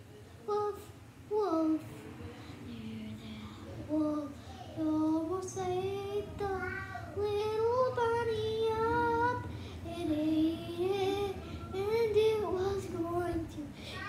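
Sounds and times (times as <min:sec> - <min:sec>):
child singing: 0:00.5 - 0:01.9, 0:02.8 - 0:14.0.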